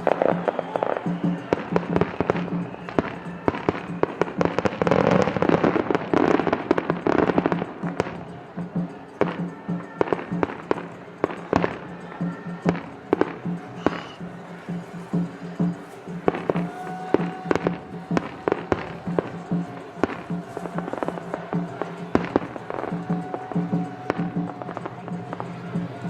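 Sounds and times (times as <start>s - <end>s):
fireworks bangs and crackling: 0.0s - 26.0s
music: 0.0s - 26.0s.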